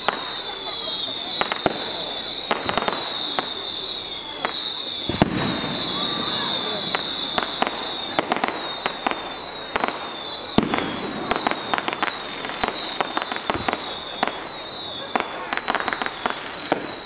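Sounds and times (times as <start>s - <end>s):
fireworks bangs and crackling: 0.0s - 17.0s
steady high hiss: 0.0s - 17.0s.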